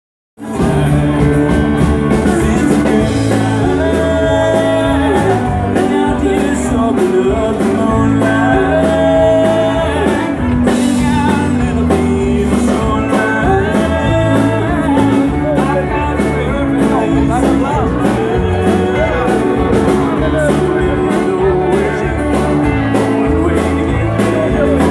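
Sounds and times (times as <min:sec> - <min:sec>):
live band playing: 0:00.4 - 0:24.9
person singing: 0:00.4 - 0:24.9.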